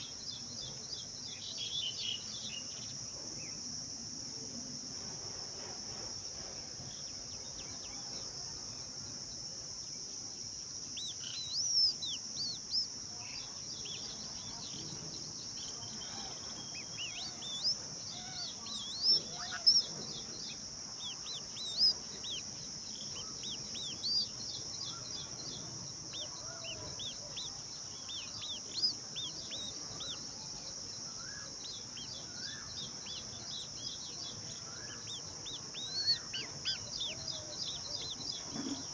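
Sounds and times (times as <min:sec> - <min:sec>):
bird chirping: 0:00.0 - 0:03.6, 0:06.8 - 0:38.9
insects droning: 0:00.0 - 0:38.9.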